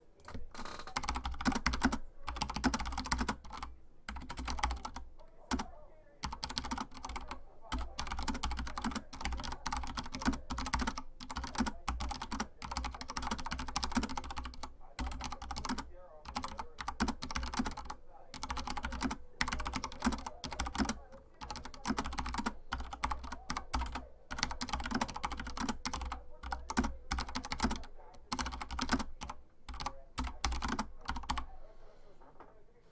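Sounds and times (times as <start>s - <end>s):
mechanical keyboard typing: 0.2s - 31.7s.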